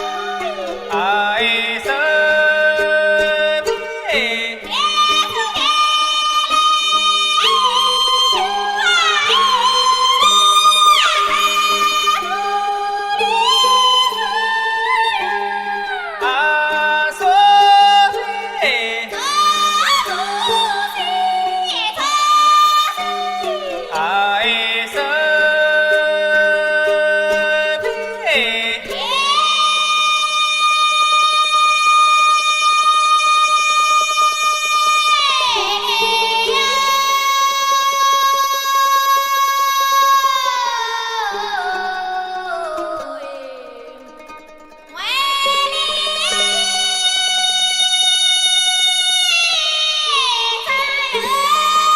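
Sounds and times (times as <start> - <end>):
high voices singing folk song: 0.0 - 51.9.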